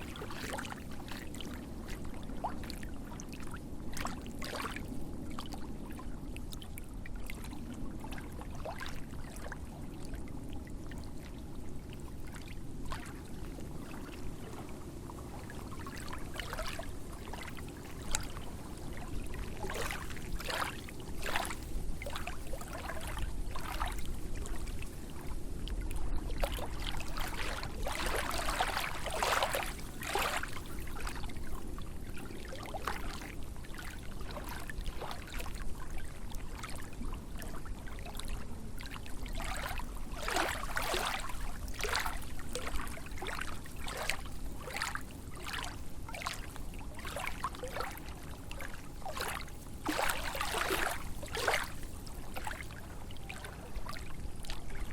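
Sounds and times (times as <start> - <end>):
lake waves lapping and splashing: 0.0 - 54.9
low wash of water: 0.0 - 54.9.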